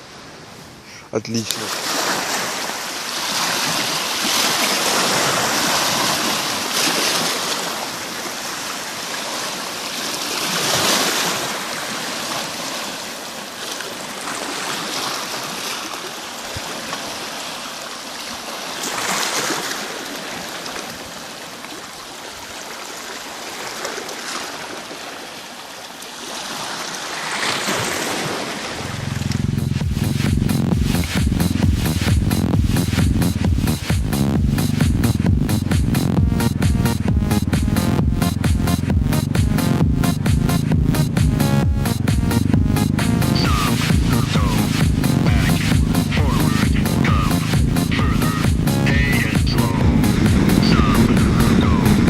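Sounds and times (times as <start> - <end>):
sea waves washing ashore: 0.0 - 52.0.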